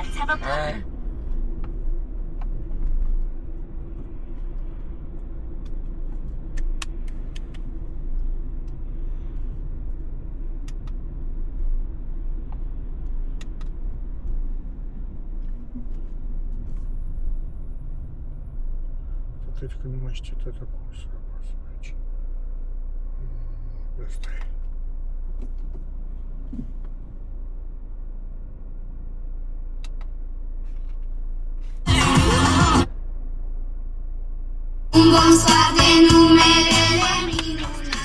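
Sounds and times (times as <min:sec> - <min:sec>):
car engine rumble: 0:00.0 - 0:38.0
road noise: 0:00.0 - 0:38.0.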